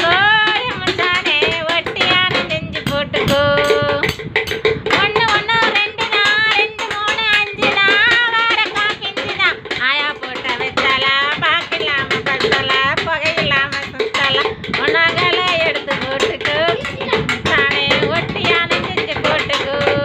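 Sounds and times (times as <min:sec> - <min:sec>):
song with singing: 0:00.0 - 0:20.0
sticks beating on tin cans: 0:00.0 - 0:20.0.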